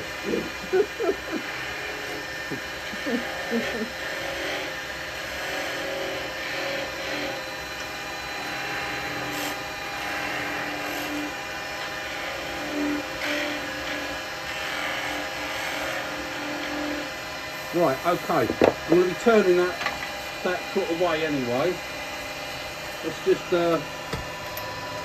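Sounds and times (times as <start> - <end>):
turning tool cutting wood: 0.0 - 25.0
wood lathe humming: 0.0 - 25.0.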